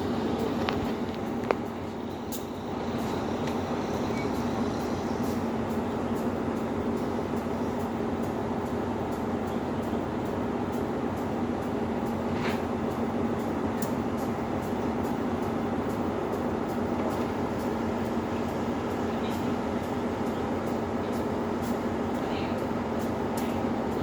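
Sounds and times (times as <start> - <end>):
diesel train humming: 0.0 - 24.0.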